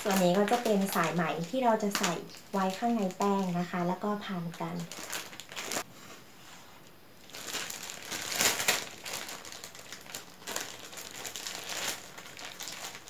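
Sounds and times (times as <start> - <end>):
plastic bag crinkling: 0.0 - 5.9, 7.2 - 13.0.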